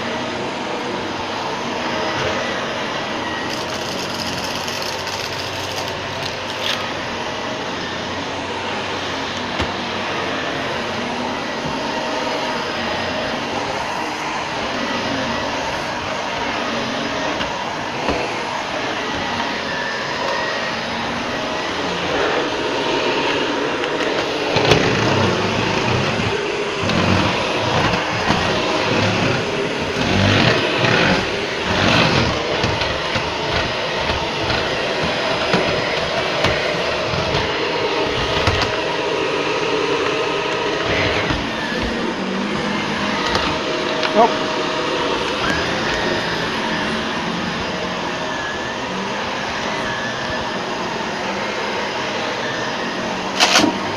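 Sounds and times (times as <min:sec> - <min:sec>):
upright vacuum cleaner running: 0:00.0 - 0:53.9
vacuum cleaner bumps: 0:01.6 - 0:51.2, 0:52.8 - 0:53.9.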